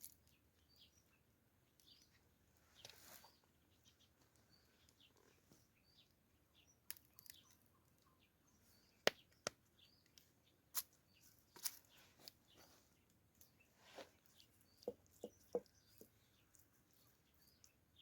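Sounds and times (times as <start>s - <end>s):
faint bird chirps: 0.1s - 18.0s.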